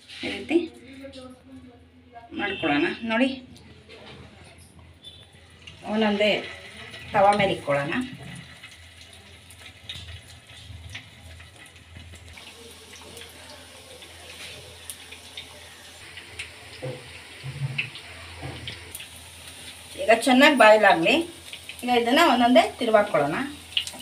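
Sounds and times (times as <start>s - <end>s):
patties sizzling in oil: 0.0s - 1.0s, 2.4s - 24.0s.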